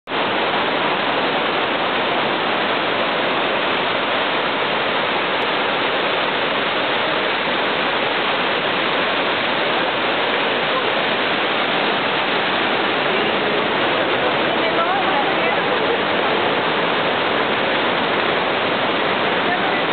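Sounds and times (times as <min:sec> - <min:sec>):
waterfall rushing: 0:00.1 - 0:19.9.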